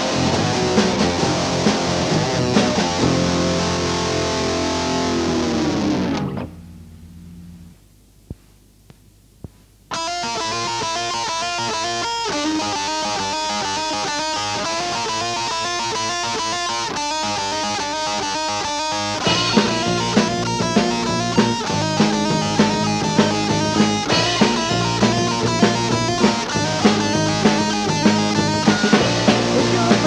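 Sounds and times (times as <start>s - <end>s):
guitar rock music: 0.0s - 7.7s, 9.9s - 30.0s
picked electric guitar: 0.0s - 7.7s, 9.9s - 30.0s.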